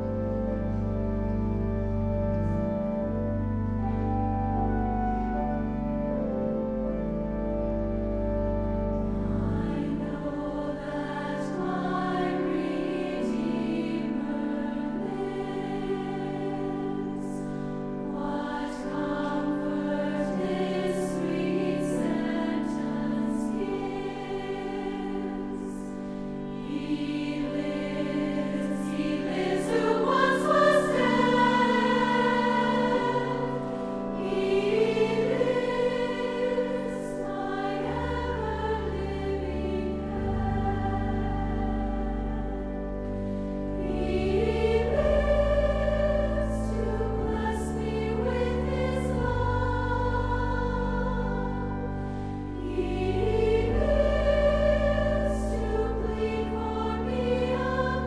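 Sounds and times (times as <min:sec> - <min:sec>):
choir singing slow chords: 0:00.0 - 0:58.0.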